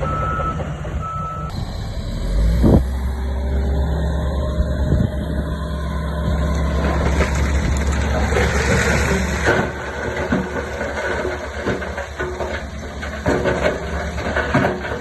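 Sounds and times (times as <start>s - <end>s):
heavy diesel machinery droning: 0.0s - 15.0s.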